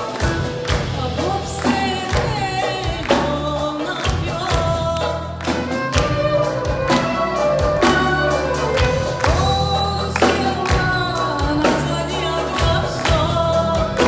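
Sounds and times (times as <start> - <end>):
instrumental ensemble playing: 0.0 - 14.0.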